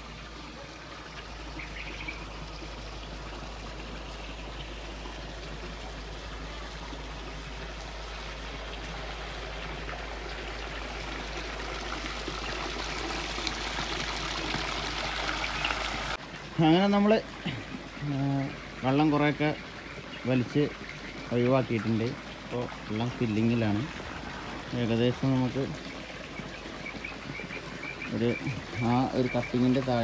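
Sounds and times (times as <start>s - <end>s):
water running into a tank: 0.0s - 30.0s.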